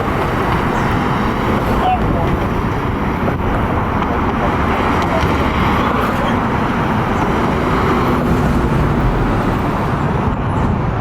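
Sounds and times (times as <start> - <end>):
tyre and road rumble: 0.0 - 11.0.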